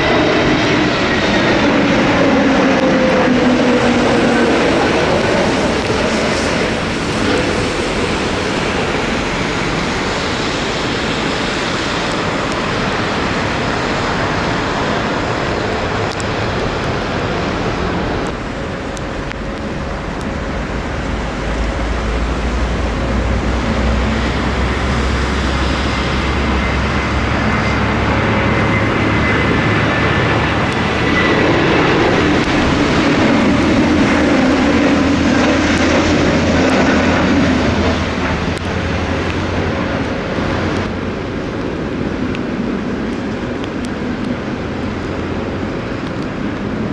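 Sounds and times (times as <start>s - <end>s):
jet engines rumbling: 0.0s - 46.9s
wind on microphone: 0.0s - 46.9s.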